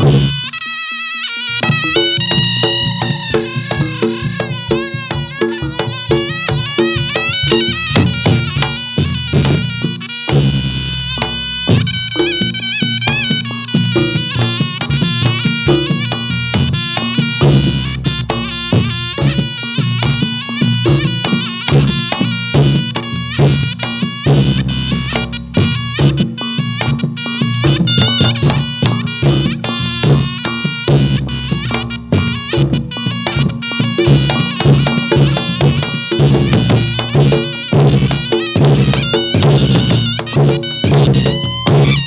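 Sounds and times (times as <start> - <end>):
drum strokes: 0.0 - 0.6, 1.5 - 42.0
shrill double-reed melody: 0.0 - 42.0.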